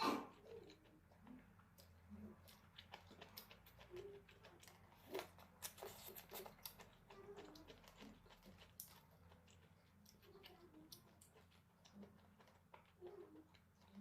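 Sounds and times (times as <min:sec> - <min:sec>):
chewing mouth smacks and clicks: 0:00.5 - 0:14.0.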